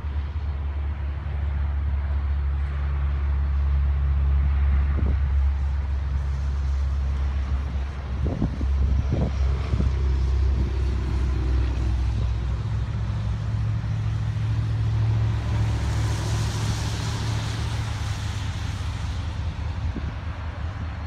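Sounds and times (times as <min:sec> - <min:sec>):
car passing with tyre noise: 0:00.0 - 0:21.0
diesel locomotive rumble: 0:00.0 - 0:21.0.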